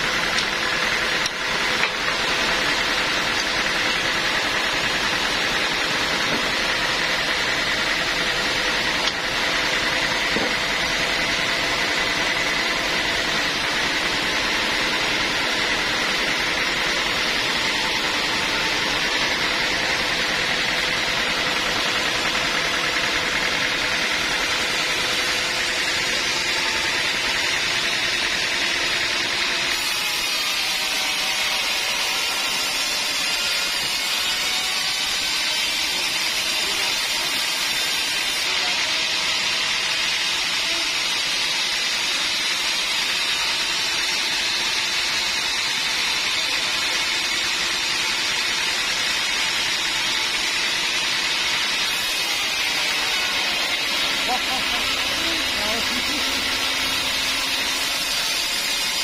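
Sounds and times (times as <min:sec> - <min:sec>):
sawmill machinery with high whine: 0:00.0 - 0:59.0.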